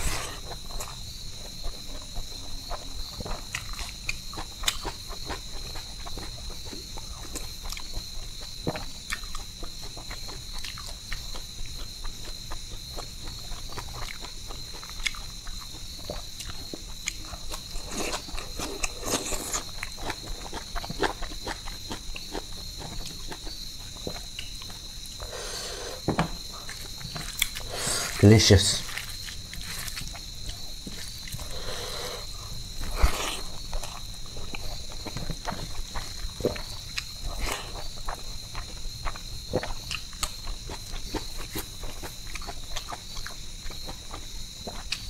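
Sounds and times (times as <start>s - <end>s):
wet chewing: 0.0s - 25.4s, 28.8s - 45.0s
crickets chirring: 0.0s - 45.0s.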